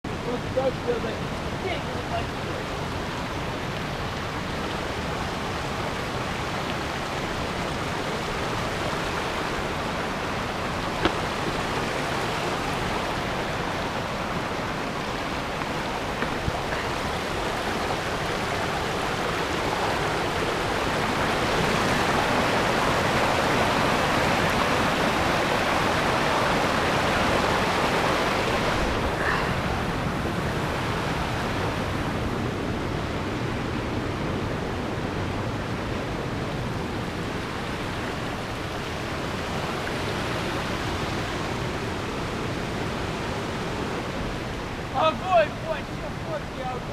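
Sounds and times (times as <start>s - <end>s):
waterfall rushing: 0.1s - 46.9s.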